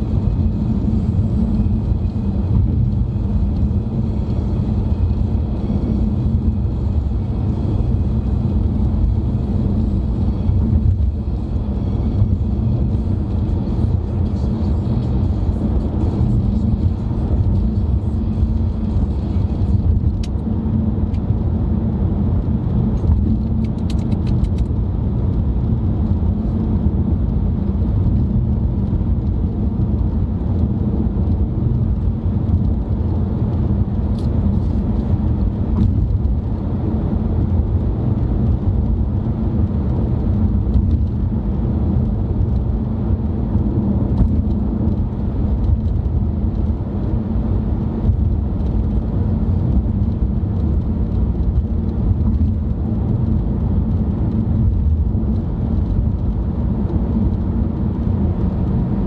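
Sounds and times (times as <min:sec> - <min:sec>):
car interior road noise: 0:00.0 - 0:59.0.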